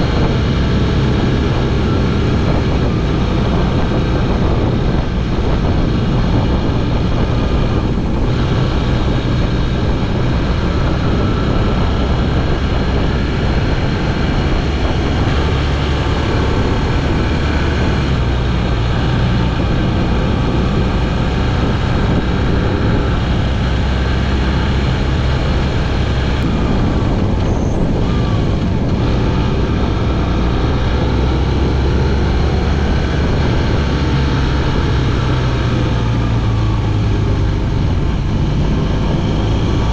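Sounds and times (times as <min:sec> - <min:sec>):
heavy wind noise: 0:00.0 - 0:39.9
motorcycle engine running: 0:00.0 - 0:39.9.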